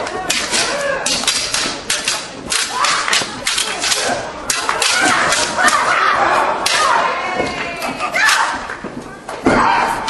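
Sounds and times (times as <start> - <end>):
people shouting: 0.0 - 8.7, 9.4 - 10.0.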